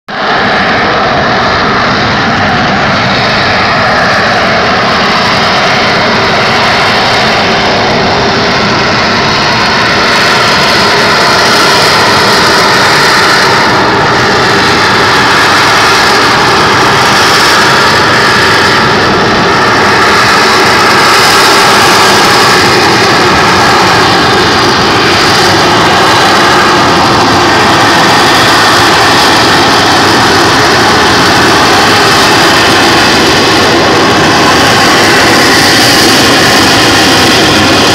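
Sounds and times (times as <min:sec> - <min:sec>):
jet roar with high whine: 0:00.1 - 0:37.9.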